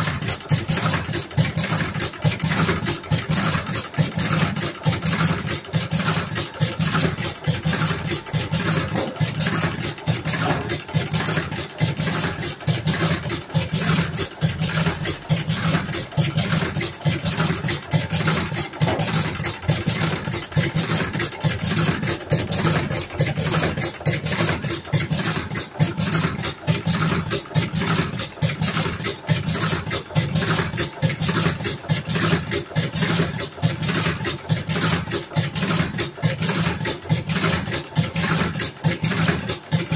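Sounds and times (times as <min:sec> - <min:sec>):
rolling machine clattering: 0:00.0 - 0:35.1.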